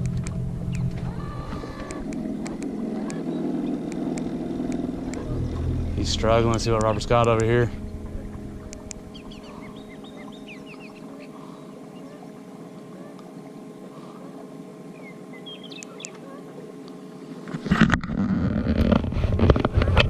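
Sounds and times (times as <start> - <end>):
birds chirping: 0.0 - 17.5
boat motor running: 0.0 - 20.0.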